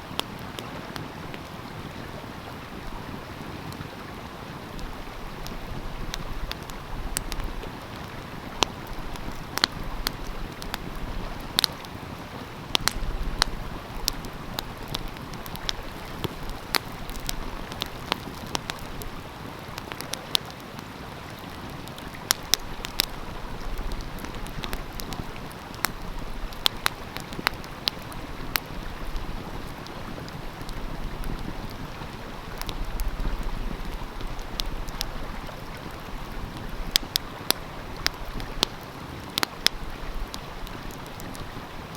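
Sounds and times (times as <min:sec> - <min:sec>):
stream flowing: 0:00.0 - 0:41.9
wood fire crackling: 0:00.0 - 0:41.9.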